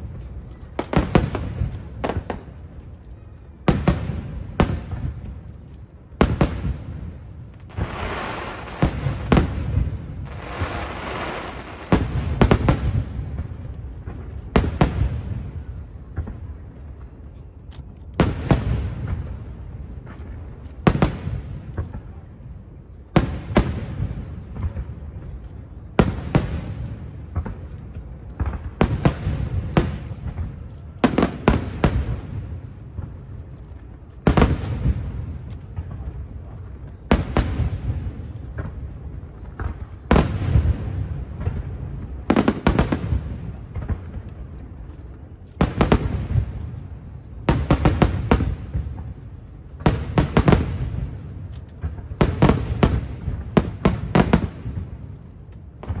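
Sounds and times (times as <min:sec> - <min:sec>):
crackling firework shells: 0:00.0 - 0:56.0
fireworks booming: 0:06.1 - 0:16.7, 0:20.8 - 0:44.5, 0:45.2 - 0:56.0.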